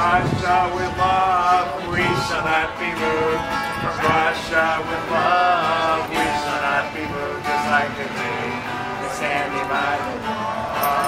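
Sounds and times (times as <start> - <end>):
people singing: 0.0 - 11.0
strummed acoustic guitar: 0.0 - 11.0.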